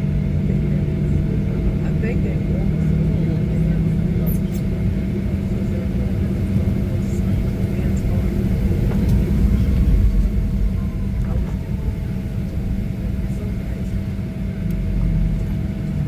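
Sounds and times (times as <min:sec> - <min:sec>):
low rumble of jet engines idling: 0:00.0 - 0:16.0.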